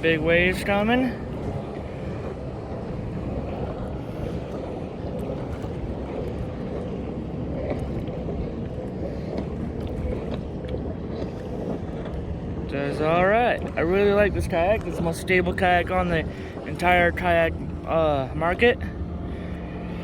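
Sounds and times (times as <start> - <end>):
water washing against kayak: 0.0 - 20.0.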